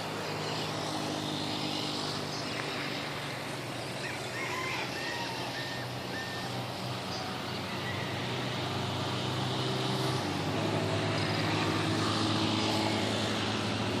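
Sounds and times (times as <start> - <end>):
low engine drone of traffic: 0.0 - 14.0
street noise: 0.0 - 14.0.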